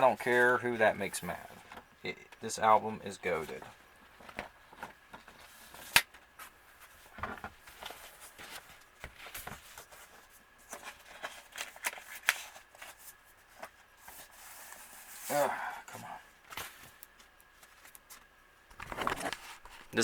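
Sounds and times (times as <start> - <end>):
paper and cardboard rustling: 0.0 - 1.9, 3.2 - 15.4, 16.4 - 20.0.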